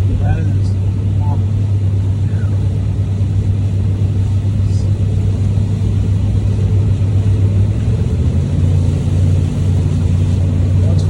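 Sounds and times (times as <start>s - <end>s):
vehicle cabin road noise: 0.0s - 11.0s.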